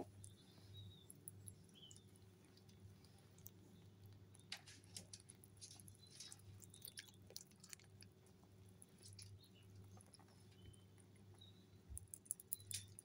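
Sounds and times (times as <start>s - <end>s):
rabbits nibbling and chewing: 0.0s - 13.0s.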